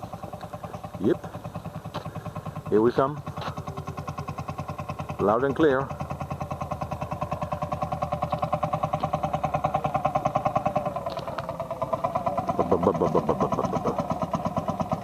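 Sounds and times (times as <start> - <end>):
old tractor engine thumping: 0.0 - 15.0.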